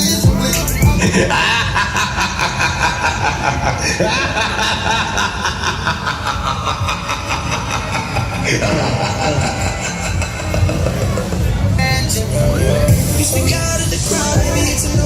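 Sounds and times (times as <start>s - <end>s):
fairground din: 0.0s - 15.0s
fairground ride machinery: 0.0s - 15.0s
people's voices: 0.0s - 15.0s.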